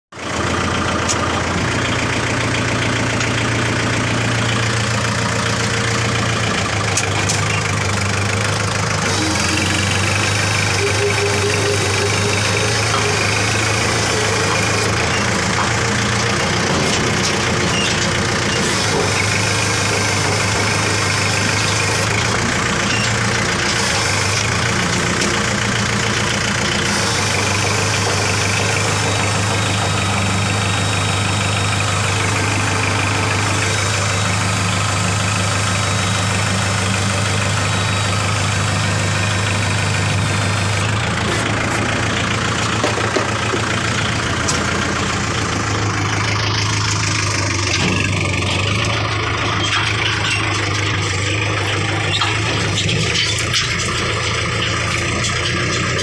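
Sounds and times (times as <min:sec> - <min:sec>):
tractor diesel engine running: 0:00.1 - 0:56.0.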